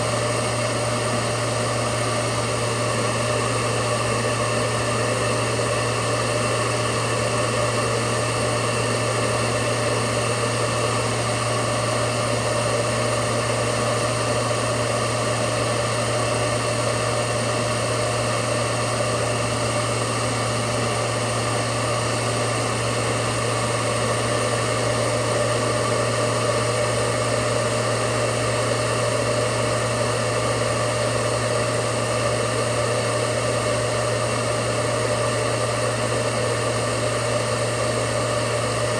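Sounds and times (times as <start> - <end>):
vacuum cleaner motor running: 0.0 - 38.9.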